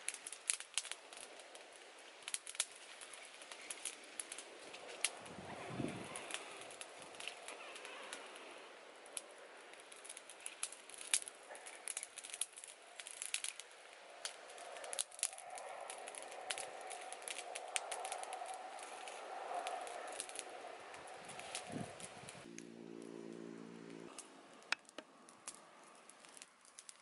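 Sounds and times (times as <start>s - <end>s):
soft steady rushing: 0.0s - 22.5s
twigs popping and snapping: 0.0s - 23.5s, 24.1s - 27.0s
stick fire crackling: 0.0s - 27.0s.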